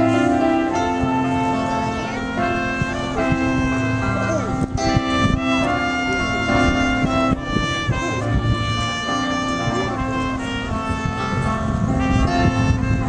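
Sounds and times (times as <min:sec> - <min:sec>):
instrumental music with held notes: 0:00.0 - 0:13.0.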